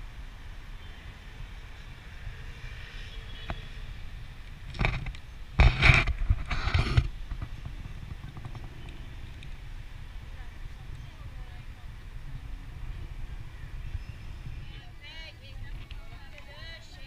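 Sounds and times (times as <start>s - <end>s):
city traffic rumble: 0.0s - 17.0s
rush of noise on microphone: 0.0s - 17.0s.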